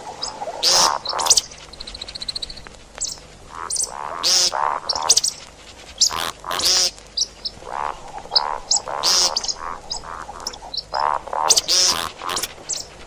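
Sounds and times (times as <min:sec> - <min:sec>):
bird calls harsh and croaky: 0:00.0 - 0:13.0.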